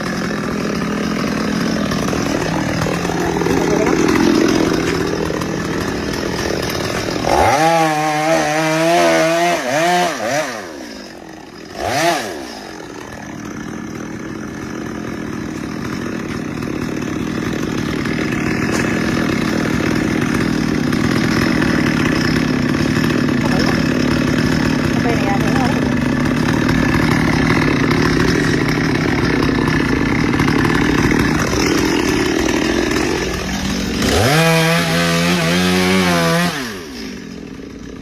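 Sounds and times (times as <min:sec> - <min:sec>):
chainsaw running: 0:00.0 - 0:38.0.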